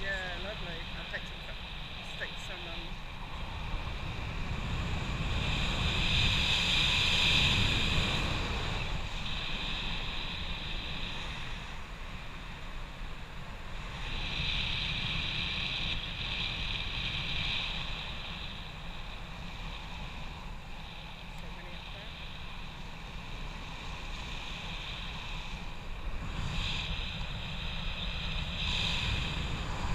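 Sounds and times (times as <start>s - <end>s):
wind rumble on microphone: 0.0s - 29.9s.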